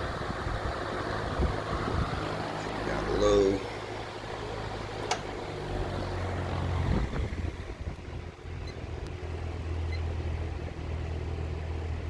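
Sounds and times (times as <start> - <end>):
box fan running: 0.0 - 12.0.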